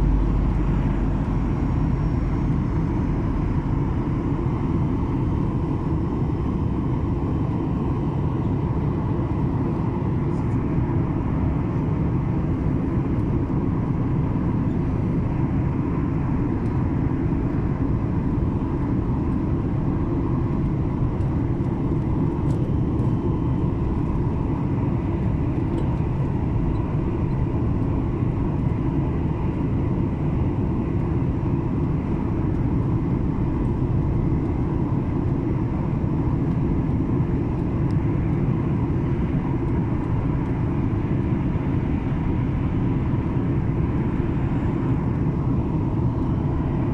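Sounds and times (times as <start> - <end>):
faint steady whine: 0.0 - 46.9
jet engine and airflow rush: 0.0 - 46.9.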